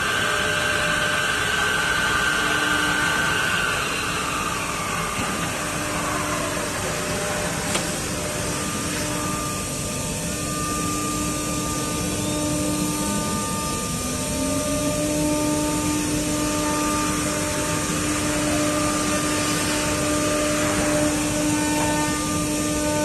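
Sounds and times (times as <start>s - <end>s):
low hum rising in pitch: 0.0s - 22.7s
drilling machine motor whine: 0.0s - 23.0s.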